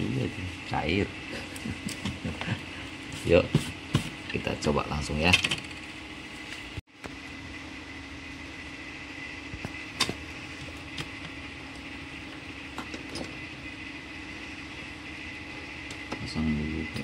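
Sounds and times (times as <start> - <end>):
steady fan-like hum: 0.0 - 17.0.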